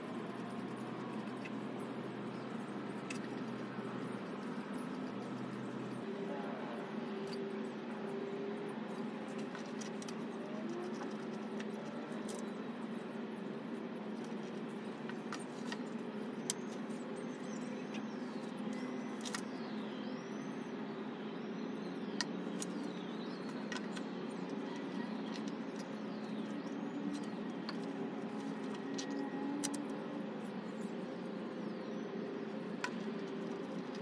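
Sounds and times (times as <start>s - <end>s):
low outdoor hum: 0.0s - 34.0s.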